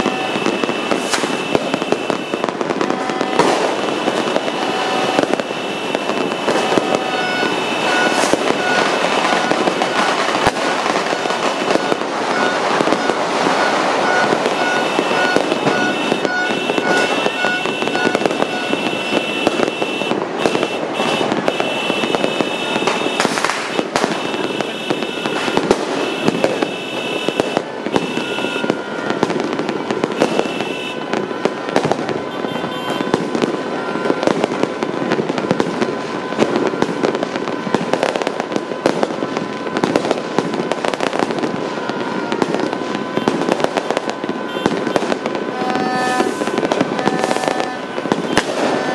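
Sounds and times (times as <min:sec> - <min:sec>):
fireworks crackling and banging: 0:00.0 - 0:48.9.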